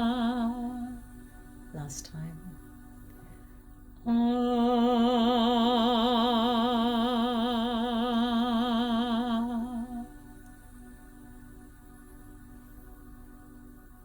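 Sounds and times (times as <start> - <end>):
soft ambient music: 0.0 - 14.0.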